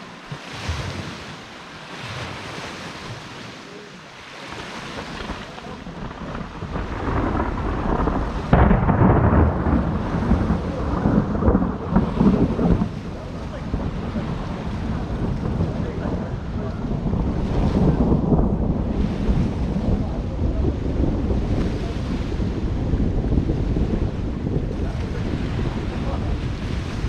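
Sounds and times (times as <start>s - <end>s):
rain falling: 3.6s - 27.0s
loud thunderclap: 5.0s - 27.0s
thunder rumbling: 5.0s - 27.0s.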